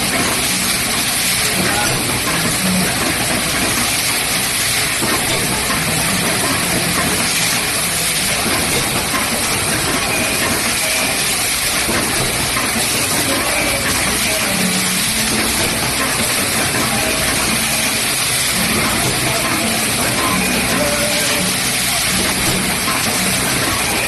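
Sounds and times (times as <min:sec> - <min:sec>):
cap assembly machine running: 0:00.0 - 0:24.0.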